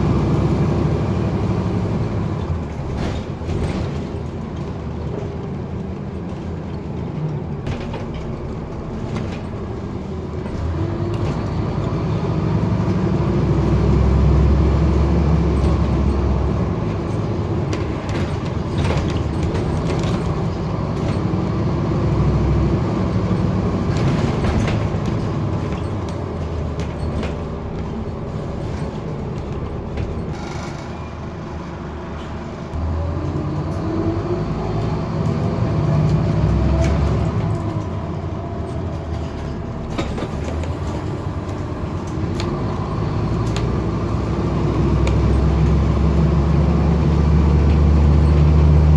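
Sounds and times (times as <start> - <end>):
bus body rattling: 0.0 - 48.9
bus diesel engine revving: 0.0 - 48.9.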